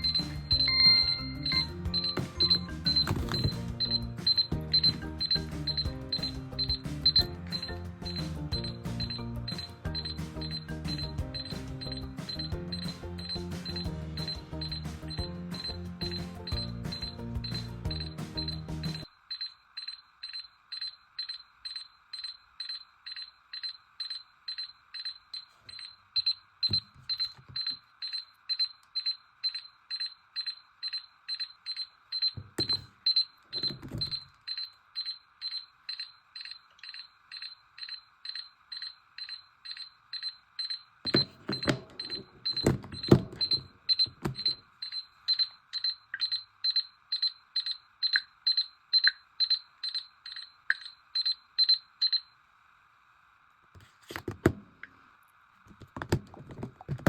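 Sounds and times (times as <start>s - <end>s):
electronic alarm beeping: 0.0s - 52.4s.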